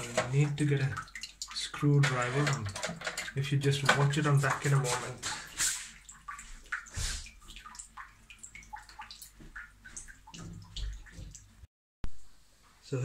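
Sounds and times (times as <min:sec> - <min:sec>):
water dripping in toilet cistern: 0:00.0 - 0:11.7.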